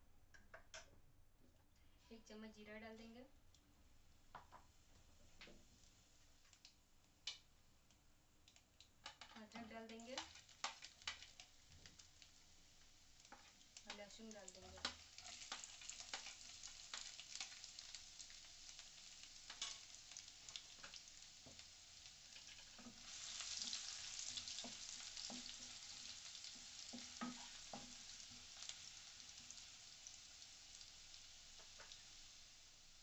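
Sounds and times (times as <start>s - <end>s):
spices sizzling in oil: 4.3s - 7.5s, 8.4s - 33.0s.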